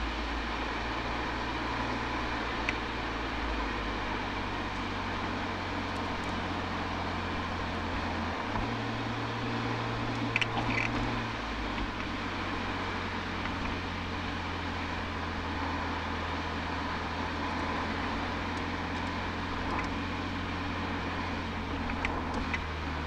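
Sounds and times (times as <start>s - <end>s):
car exhaust drone: 0.0s - 23.0s
road and wind noise: 0.0s - 23.0s.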